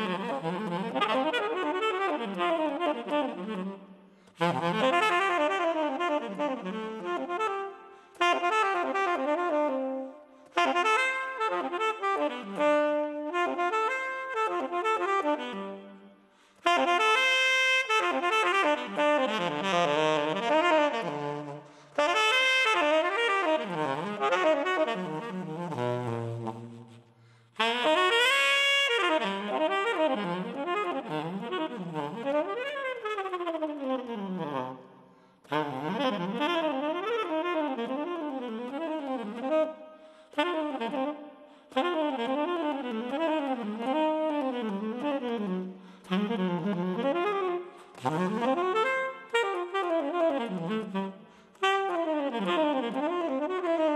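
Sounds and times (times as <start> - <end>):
jazz saxophone solo: 0.0 - 53.9.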